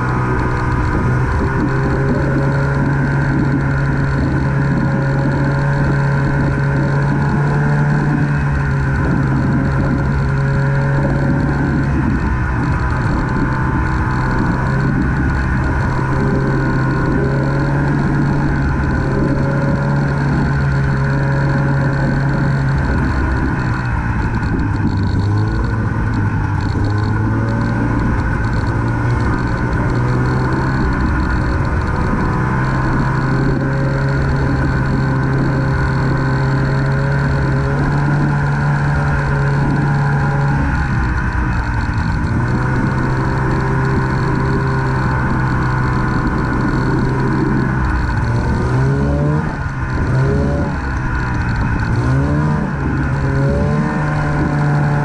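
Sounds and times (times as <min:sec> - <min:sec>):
snowmobile engine running: 0:00.0 - 0:55.0.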